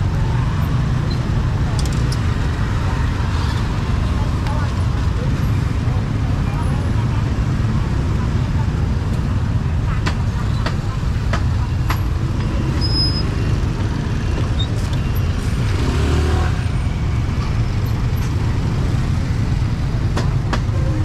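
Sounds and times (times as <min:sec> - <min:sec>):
traffic engines rumbling: 0:00.0 - 0:21.0.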